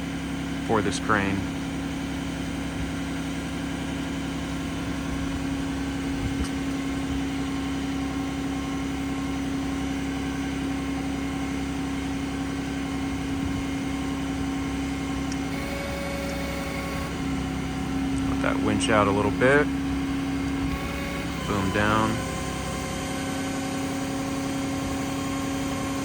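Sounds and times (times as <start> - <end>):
diesel engine high idle: 0.0 - 26.0.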